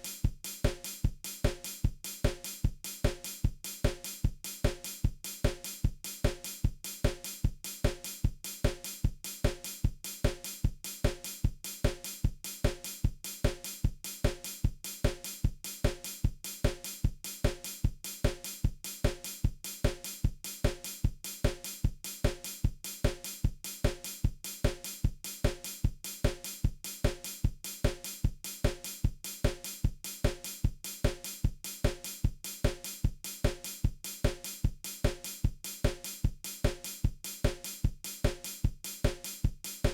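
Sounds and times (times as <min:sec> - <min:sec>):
programmed drum beat: 0:00.0 - 0:39.9.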